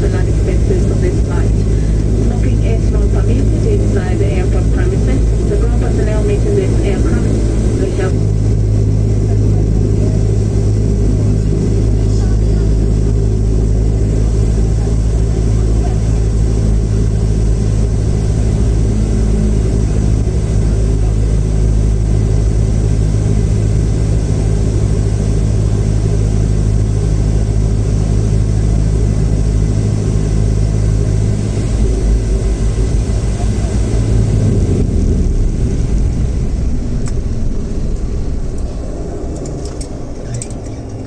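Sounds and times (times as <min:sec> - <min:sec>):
propeller engine drone in cabin: 0:00.0 - 0:41.0.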